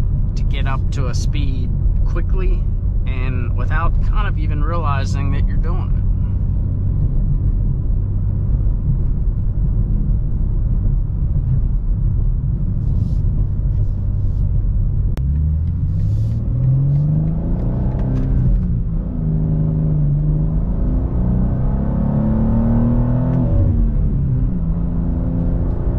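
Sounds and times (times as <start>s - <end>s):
car engine droning in cabin: 0.0s - 25.9s.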